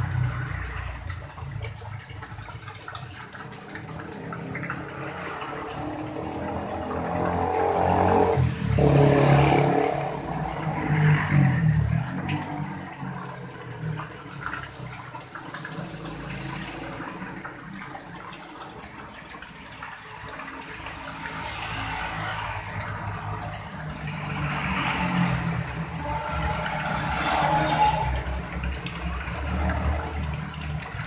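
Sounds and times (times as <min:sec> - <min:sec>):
fountain water splashing into pond: 0:00.0 - 0:31.0.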